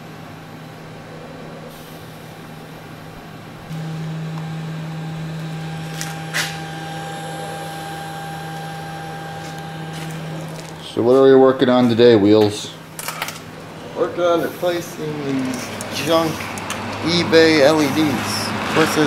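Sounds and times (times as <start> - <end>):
cooling fans humming: 0.0 - 19.0.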